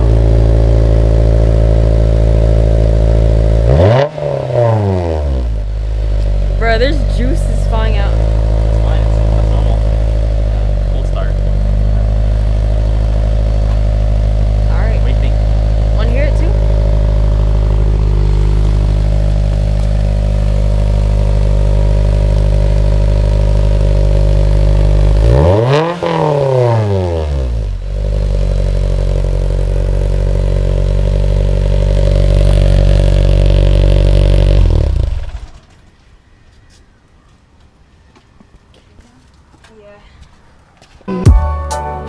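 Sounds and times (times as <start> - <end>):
car engine idling and revving: 0.0 - 35.8, 41.1 - 42.0.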